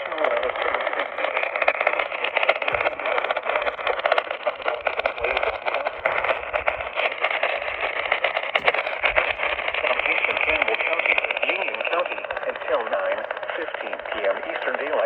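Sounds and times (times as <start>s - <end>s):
radio static hiss and crackle: 0.0s - 15.0s.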